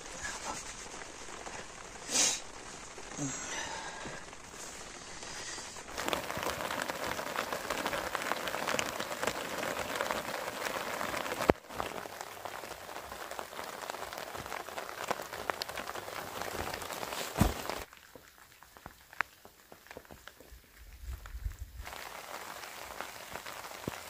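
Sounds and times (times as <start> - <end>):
rain pattering on a tent: 0.0 - 24.0.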